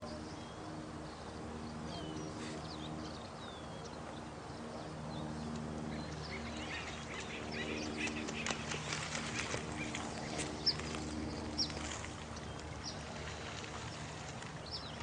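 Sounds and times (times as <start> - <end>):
running water: 0.0 - 15.0
small birds chirping: 0.0 - 15.0.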